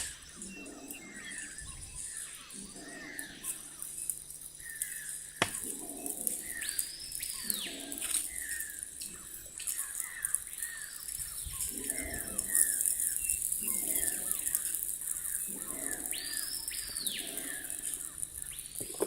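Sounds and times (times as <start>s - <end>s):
bird chirps: 0.0s - 19.0s
steady high hiss: 0.0s - 19.0s.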